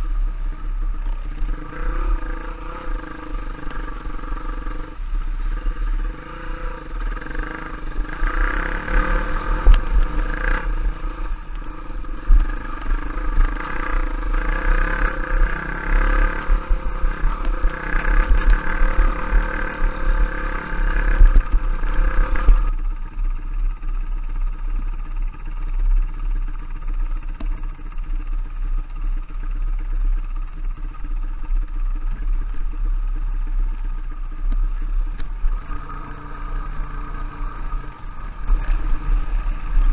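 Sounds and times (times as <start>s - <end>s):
low buffeting rumble: 0.0s - 39.9s
trail bike engine running: 0.0s - 39.9s
scattered clatter: 5.6s - 39.9s.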